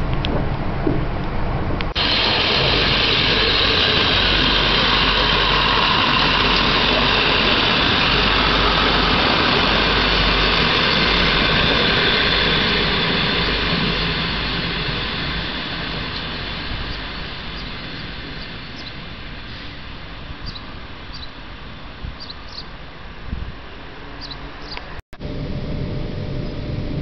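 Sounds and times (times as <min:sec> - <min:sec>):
passenger train passing: 0:00.0 - 0:27.0.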